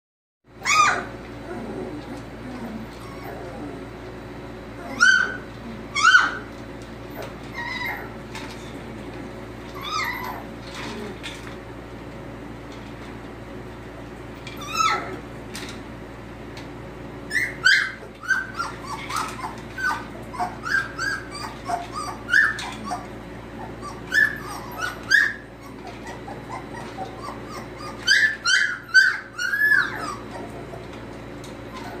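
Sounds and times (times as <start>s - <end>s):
steady low hum: 0.5s - 32.0s
puppies whimpering and squealing: 0.6s - 8.7s, 9.6s - 11.3s, 14.4s - 15.4s, 17.2s - 32.0s.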